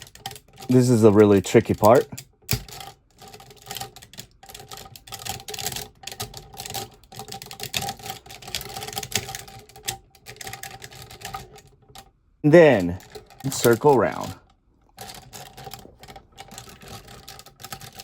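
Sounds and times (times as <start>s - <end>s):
plastic toy clicking and rattling: 0.0s - 12.1s, 12.7s - 18.0s.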